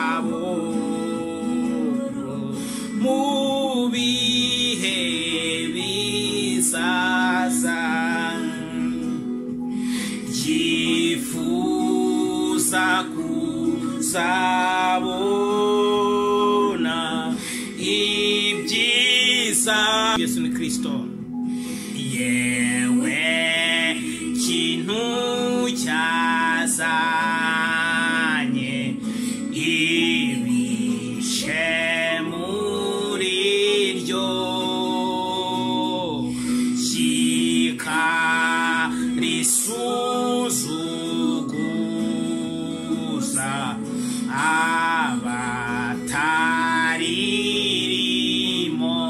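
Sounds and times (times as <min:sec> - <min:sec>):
man singing a hymn: 0:00.0 - 0:09.3, 0:09.9 - 0:21.1, 0:22.0 - 0:49.0.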